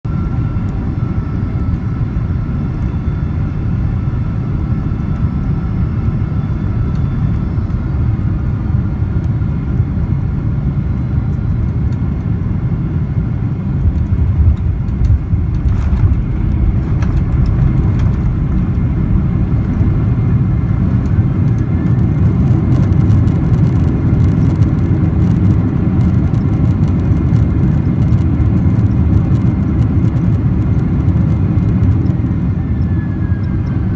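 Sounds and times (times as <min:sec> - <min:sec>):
faint engine whine: 0:00.0 - 0:33.9
jet engine low rumble: 0:00.0 - 0:33.9.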